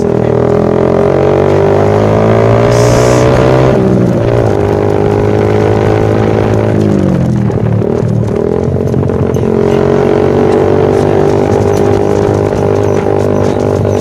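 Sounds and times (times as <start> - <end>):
motorcycle engine under throttle: 0.0 - 14.0.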